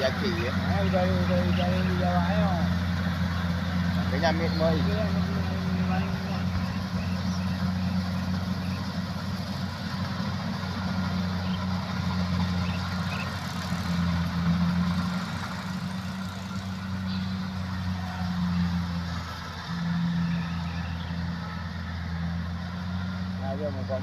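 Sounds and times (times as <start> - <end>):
combine harvester engine humming: 0.0 - 24.0.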